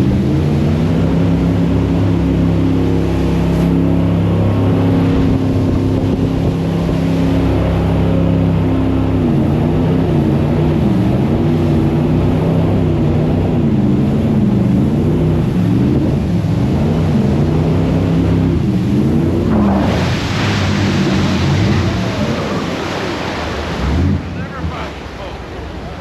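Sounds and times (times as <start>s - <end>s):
boat engine revving: 0.0s - 26.0s
rushing water and wind: 0.0s - 26.0s.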